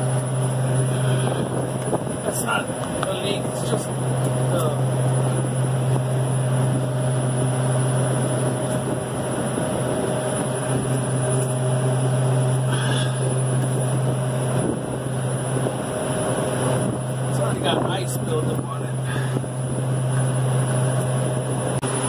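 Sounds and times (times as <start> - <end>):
freezer fans humming: 0.0 - 22.0.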